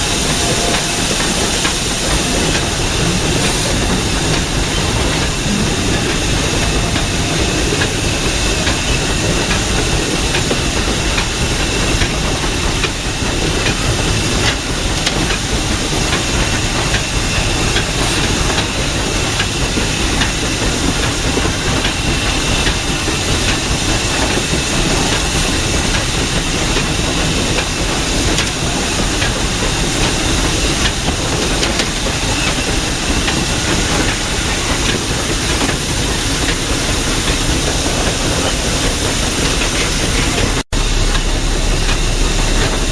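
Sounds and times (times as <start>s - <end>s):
locomotive running noise: 0.0s - 42.9s
steam hissing: 0.0s - 42.9s.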